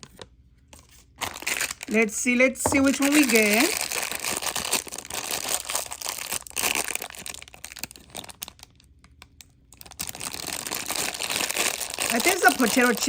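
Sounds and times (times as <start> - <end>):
plastic bag crinkling: 1.1 - 2.0, 2.7 - 13.0.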